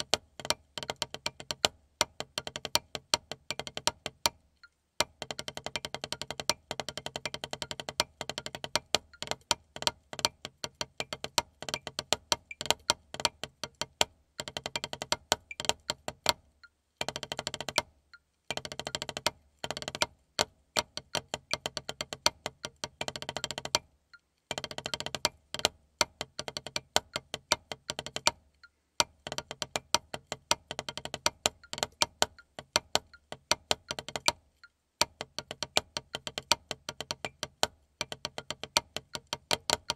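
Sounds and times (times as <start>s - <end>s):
drumsticks on a practice pad: 0.0s - 39.9s.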